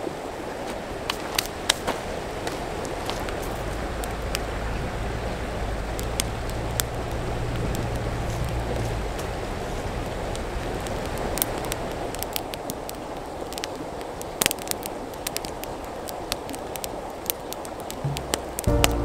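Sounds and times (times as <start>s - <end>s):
river rushing: 0.0s - 19.0s
campfire crackling and popping: 0.6s - 19.0s.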